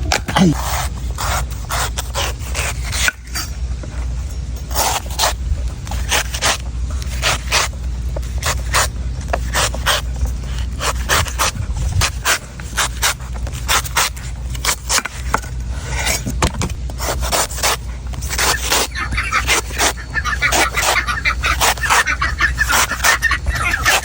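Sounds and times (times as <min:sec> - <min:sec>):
knife cutting coconut: 0:00.0 - 0:03.6, 0:04.6 - 0:24.0.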